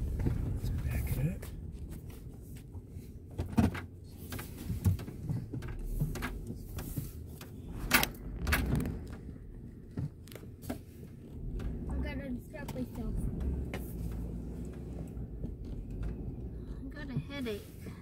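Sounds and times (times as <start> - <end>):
low rumble inside car: 0.0 - 18.0.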